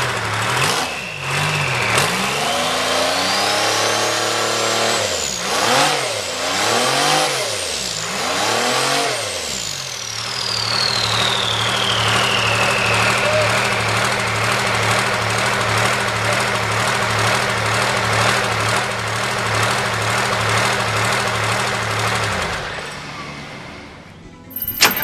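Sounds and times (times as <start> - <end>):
diesel engine revving: 0.0 - 22.8.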